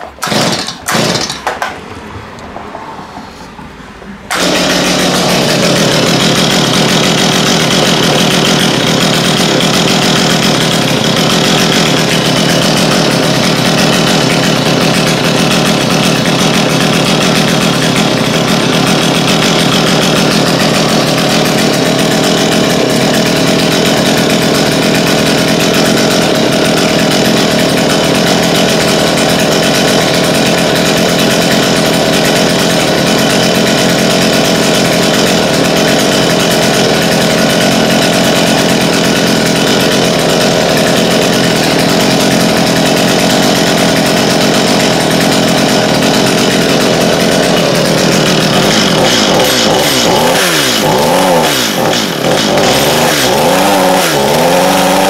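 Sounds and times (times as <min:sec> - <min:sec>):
chainsaw engine running: 0:00.0 - 0:01.8, 0:04.3 - 0:55.0
starter cord yanks: 0:00.0 - 0:01.8, 0:04.3 - 0:53.2.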